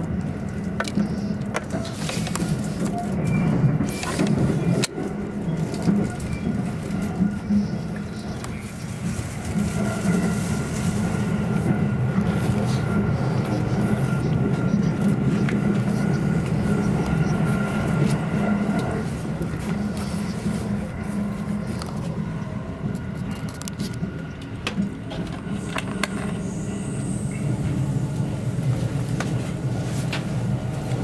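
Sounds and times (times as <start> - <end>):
faint steady whine: 0.0 - 31.0
train wheels rumbling on rail: 0.0 - 31.0.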